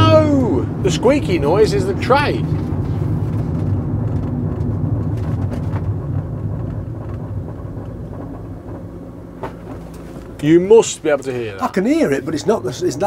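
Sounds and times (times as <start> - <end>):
van cabin road rumble: 0.0 - 13.0.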